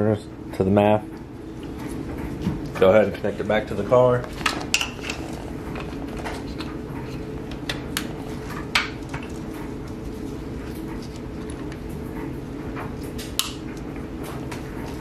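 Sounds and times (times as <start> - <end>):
clothes dryer humming: 0.0 - 15.0.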